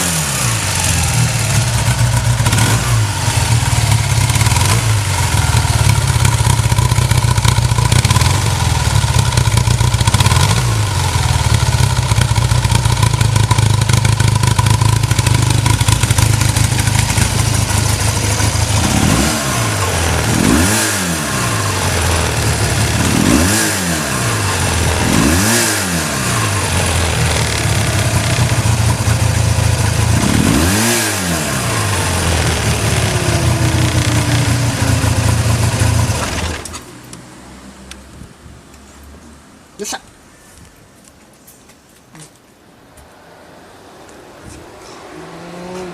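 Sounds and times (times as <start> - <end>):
motorcycle engine idling and revving: 0.0 - 39.7, 44.1 - 45.9.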